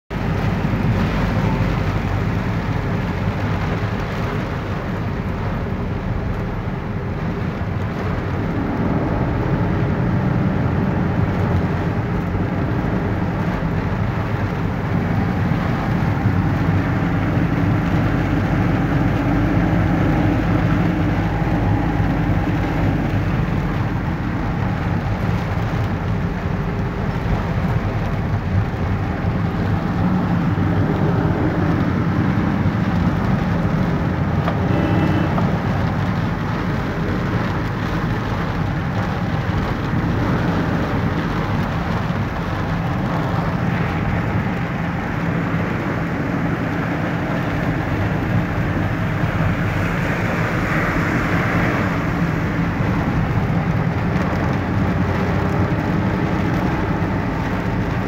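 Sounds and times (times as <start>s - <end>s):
rain on vehicle: 0.1s - 58.0s
tyres on wet road: 0.1s - 58.0s.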